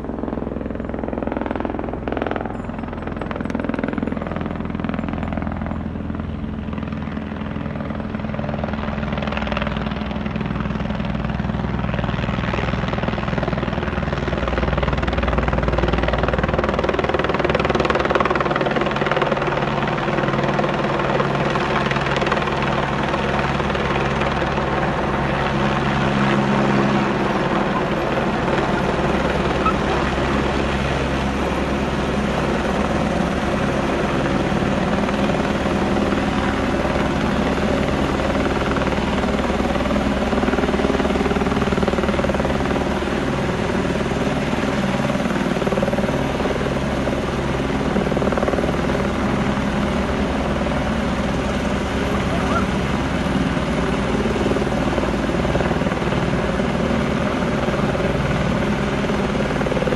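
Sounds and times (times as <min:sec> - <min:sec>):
helicopter rotor chopping: 0:00.0 - 0:59.9
turbine whine: 0:00.0 - 0:59.9.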